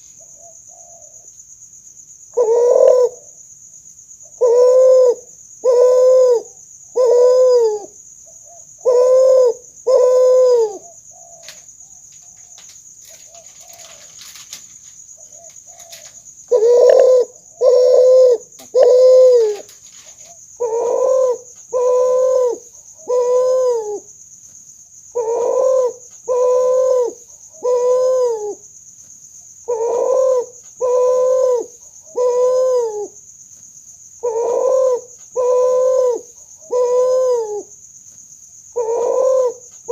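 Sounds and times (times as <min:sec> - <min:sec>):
dove cooing: 0:02.3 - 0:03.4, 0:04.3 - 0:24.1, 0:25.1 - 0:28.6, 0:29.7 - 0:33.2, 0:34.2 - 0:37.7, 0:38.8 - 0:39.9.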